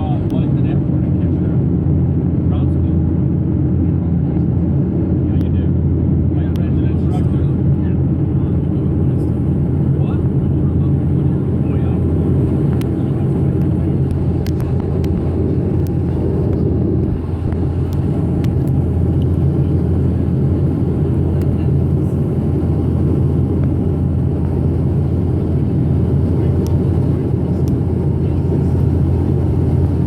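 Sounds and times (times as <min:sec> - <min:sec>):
turboprop engine drone in cabin: 0:00.0 - 0:30.0.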